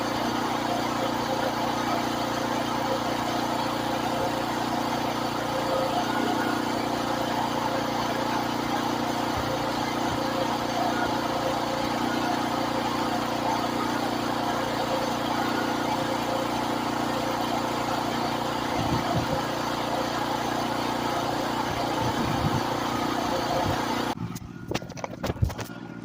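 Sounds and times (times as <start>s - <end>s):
pressure washer motor hum: 0.0s - 26.0s.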